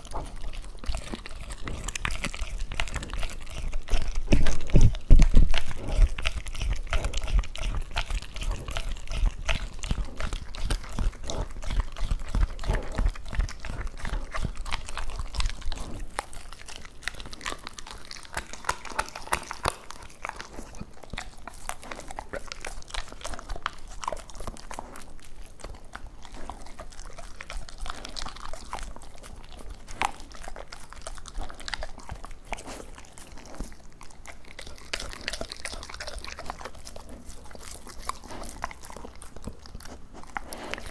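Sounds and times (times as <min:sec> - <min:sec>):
dog chewing and cracking bones: 0:00.0 - 0:40.9.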